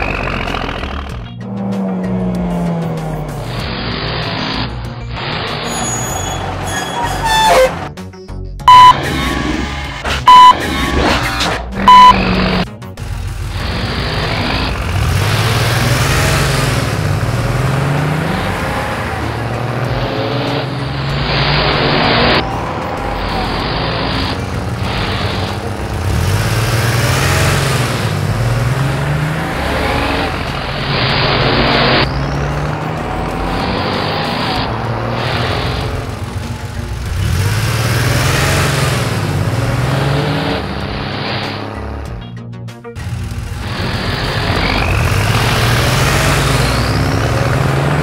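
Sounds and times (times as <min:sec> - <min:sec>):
cartoon engines revving: 0:00.0 - 0:07.9, 0:08.7 - 0:42.2, 0:43.0 - 0:48.0.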